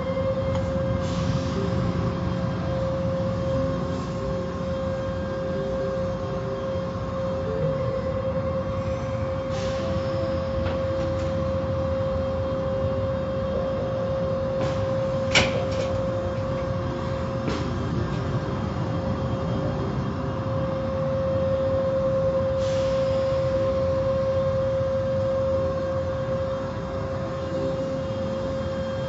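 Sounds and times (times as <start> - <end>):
car wash machinery hum: 0.0 - 29.0.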